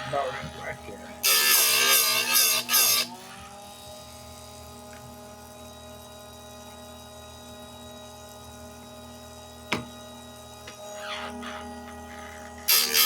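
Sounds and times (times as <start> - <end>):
grinding machine motor humming: 0.0 - 13.0.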